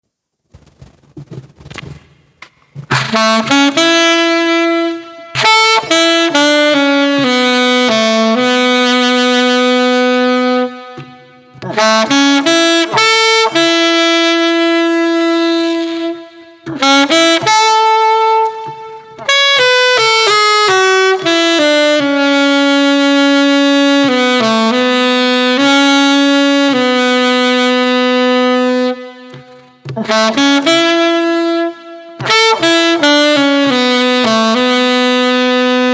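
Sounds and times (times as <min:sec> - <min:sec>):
saxophone slow melody: 0:02.9 - 0:35.9.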